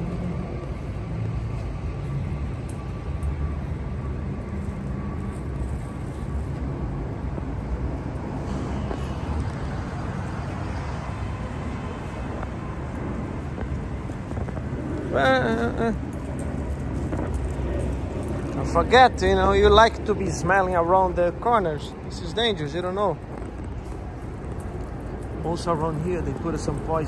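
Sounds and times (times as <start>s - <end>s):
low rumble of street traffic: 0.0s - 27.0s.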